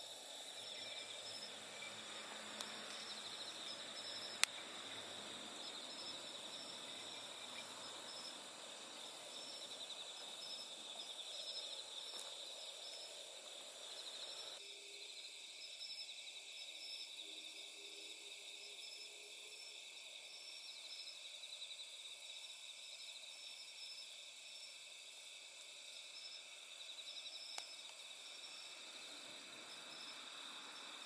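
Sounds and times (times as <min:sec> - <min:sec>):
background hiss: 0:00.0 - 0:31.0
crickets chirping: 0:00.0 - 0:31.0.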